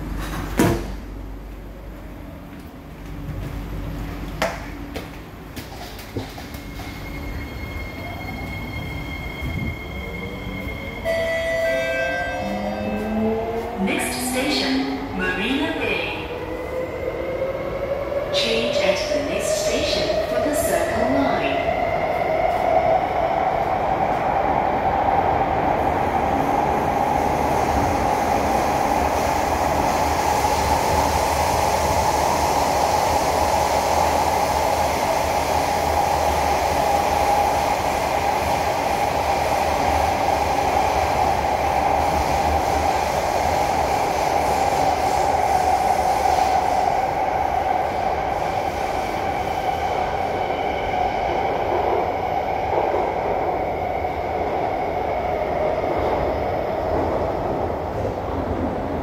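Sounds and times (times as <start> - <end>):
metro train running noise: 0.0 - 59.0.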